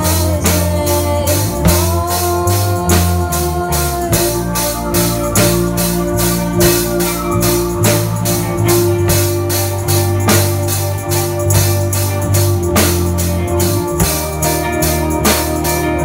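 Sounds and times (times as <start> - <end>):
drum kit: 0.0 - 16.0
electric guitars: 0.0 - 16.0
keyboard: 0.0 - 16.0.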